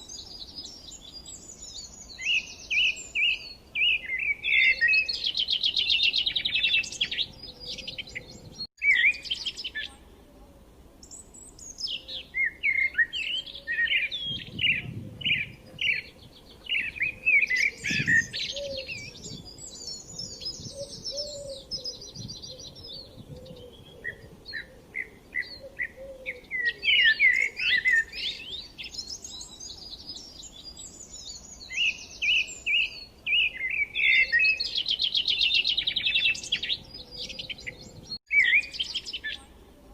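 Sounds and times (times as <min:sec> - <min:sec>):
small birds chirping and singing: 0:00.0 - 0:10.2, 0:11.0 - 0:39.9.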